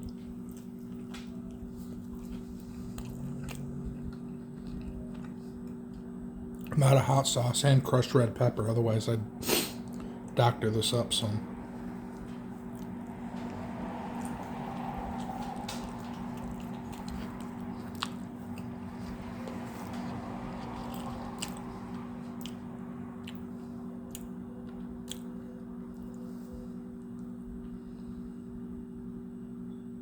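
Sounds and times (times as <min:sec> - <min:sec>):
low hum: 0:00.0 - 0:06.7, 0:08.6 - 0:30.0
crunchy pizza chewing: 0:00.0 - 0:07.0, 0:11.2 - 0:29.3.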